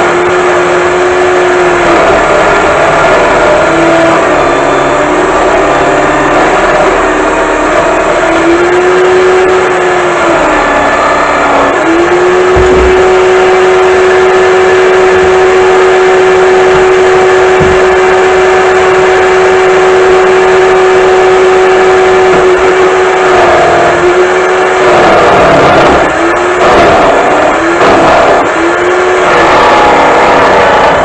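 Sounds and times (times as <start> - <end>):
electric drill whining: 0.0 - 31.0.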